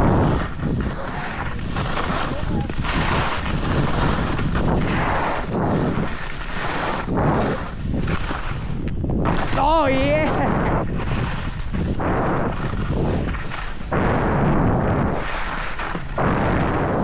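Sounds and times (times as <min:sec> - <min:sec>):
snow hissing under skis: 0:00.0 - 0:17.0
wind rushing over microphone: 0:00.0 - 0:17.0.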